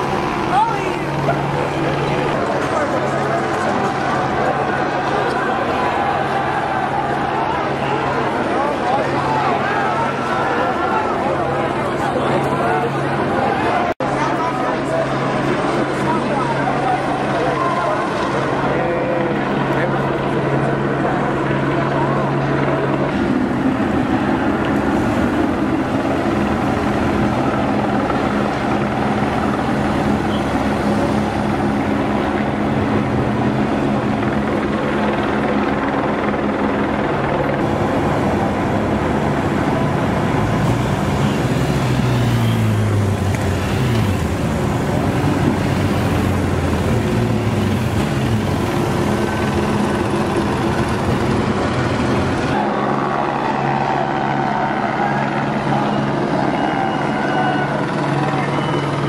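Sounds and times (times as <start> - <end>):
helicopter drone overhead: 0.0 - 59.0
motorcycle engines running: 0.0 - 59.0.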